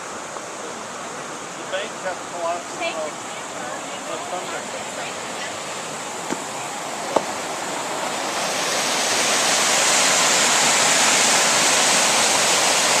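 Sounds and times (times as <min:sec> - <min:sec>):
rushing stream water: 0:00.0 - 0:13.0.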